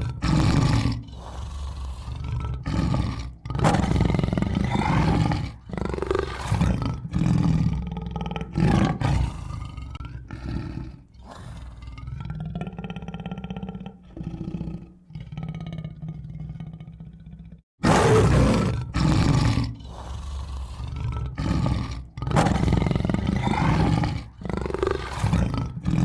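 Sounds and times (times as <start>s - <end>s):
tiger roaring and growling: 0.0s - 26.0s.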